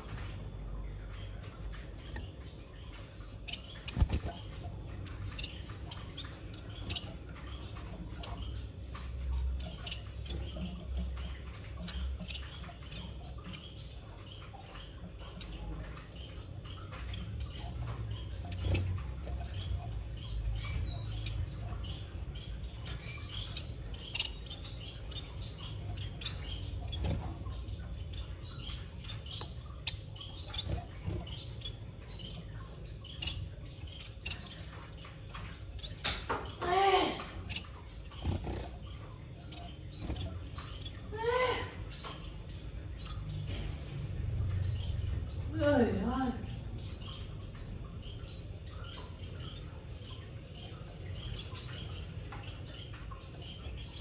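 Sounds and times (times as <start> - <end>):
nestlings cheeping: 0.0 - 43.6.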